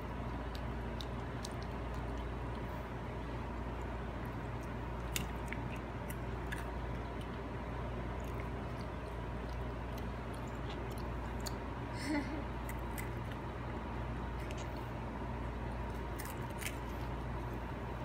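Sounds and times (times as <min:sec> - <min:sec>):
toddler chewing crackers: 0:00.0 - 0:03.0, 0:03.8 - 0:13.5, 0:14.2 - 0:15.0, 0:15.7 - 0:17.4
background hum: 0:00.0 - 0:18.0.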